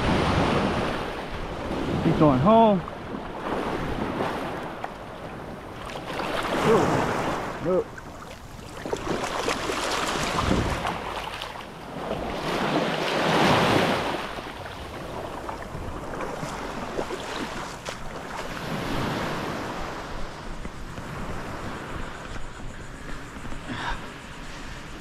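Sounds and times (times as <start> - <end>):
wind buffeting microphone: 0.0 - 23.9
small surf waves washing: 0.0 - 25.0.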